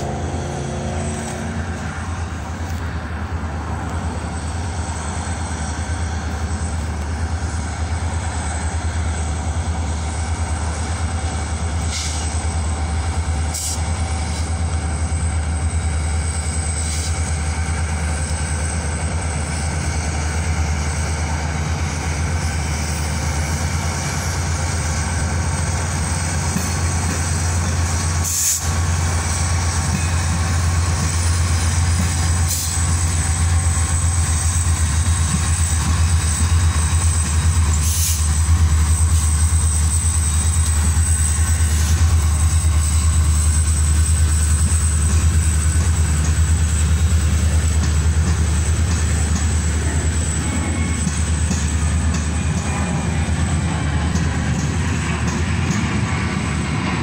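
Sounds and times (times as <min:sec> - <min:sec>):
diesel locomotive engine rumble: 0:00.0 - 0:57.0.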